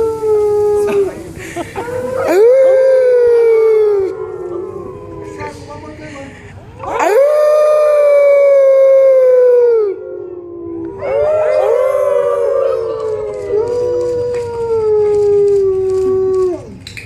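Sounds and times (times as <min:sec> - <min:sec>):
wolves howling: 0:01.8 - 0:05.9, 0:06.8 - 0:16.8.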